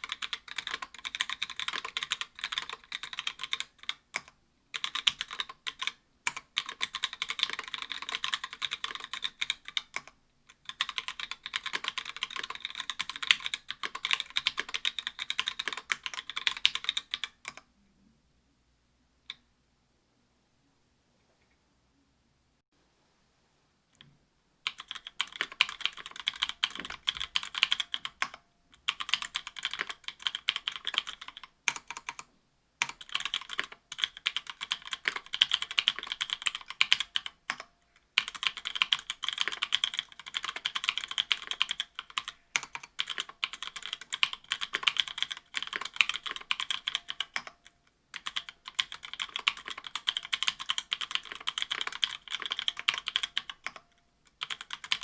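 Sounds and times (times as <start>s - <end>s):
mechanical keyboard typing: 0.0s - 17.7s, 24.6s - 55.0s.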